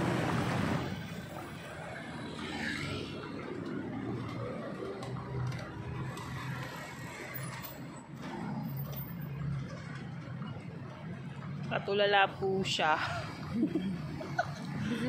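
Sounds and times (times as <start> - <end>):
hum of passing vehicles: 0.0 - 15.0.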